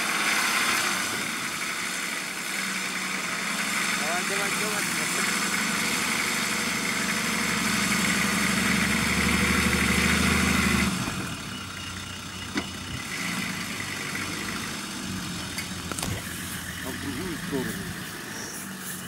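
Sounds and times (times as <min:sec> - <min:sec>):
car engine pulling under load: 0:00.0 - 0:19.0.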